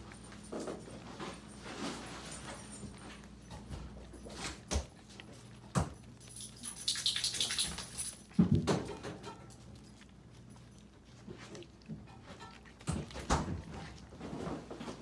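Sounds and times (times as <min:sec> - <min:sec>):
puppies crunching dry kibble: 0:00.0 - 0:15.0.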